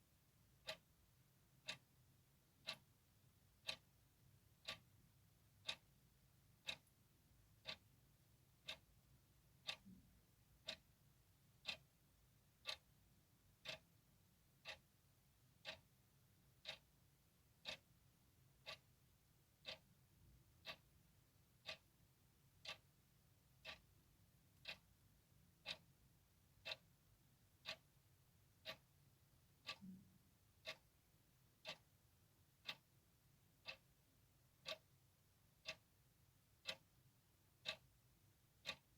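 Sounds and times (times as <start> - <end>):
clock ticking: 0.4 - 38.9.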